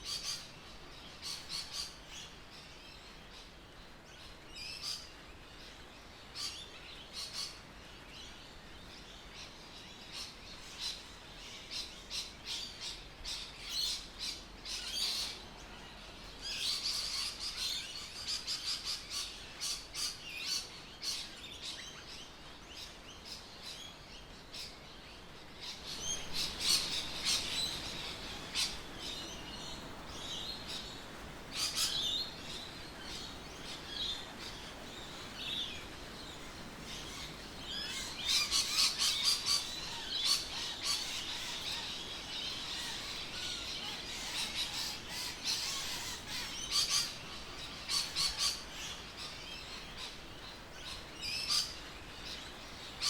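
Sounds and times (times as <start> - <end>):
birds chirping and calling: 0.0 - 2.8, 9.4 - 53.0.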